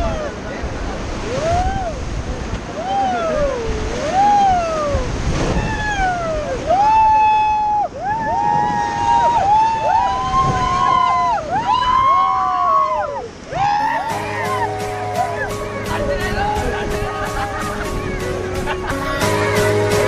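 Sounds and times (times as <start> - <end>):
people whooping and shouting: 0.0 - 0.4, 1.2 - 2.1, 2.7 - 20.0
river water rushing: 0.0 - 20.0.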